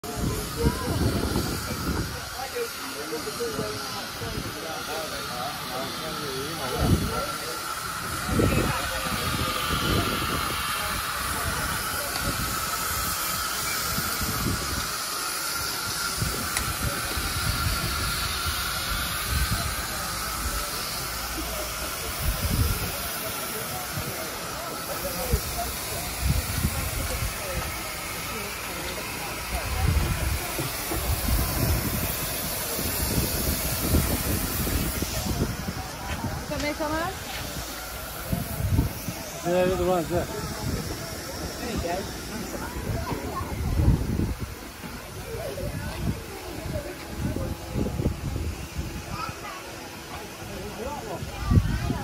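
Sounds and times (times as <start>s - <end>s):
steam hissing: 0.0s - 52.0s.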